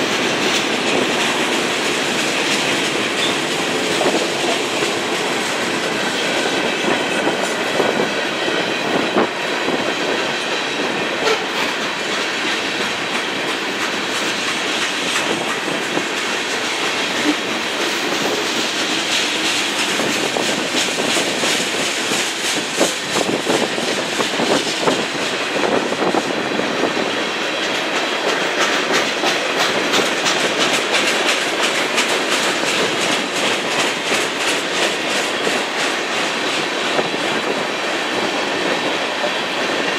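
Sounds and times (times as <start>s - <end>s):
freight train wheels clicking: 0.0s - 39.9s.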